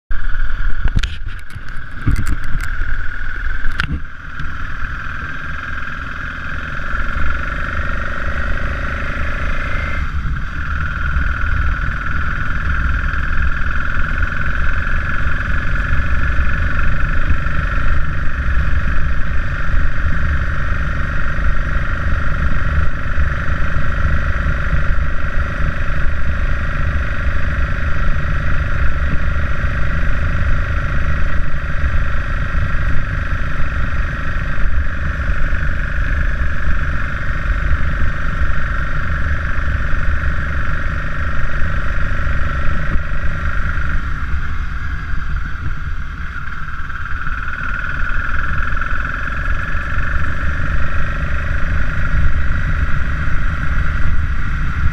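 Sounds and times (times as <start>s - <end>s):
motorcycle engine running: 0.1s - 54.9s
wind rumble on microphone: 0.1s - 54.9s.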